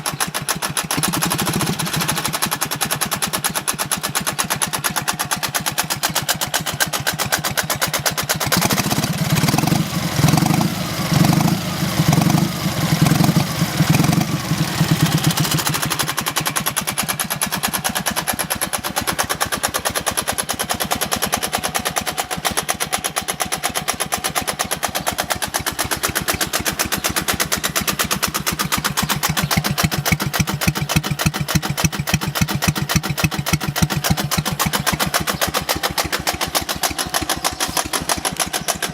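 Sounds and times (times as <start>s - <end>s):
motorcycle engine knocking: 0.0s - 38.9s.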